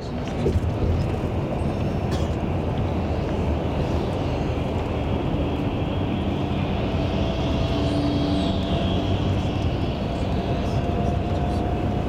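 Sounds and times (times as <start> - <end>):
coach engine and tyre rumble: 0.0 - 12.0
passing truck humming: 0.0 - 12.0.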